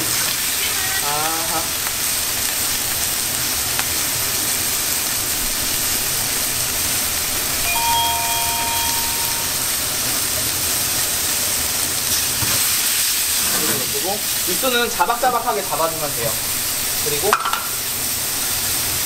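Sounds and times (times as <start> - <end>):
wok burner roaring: 0.0 - 19.0.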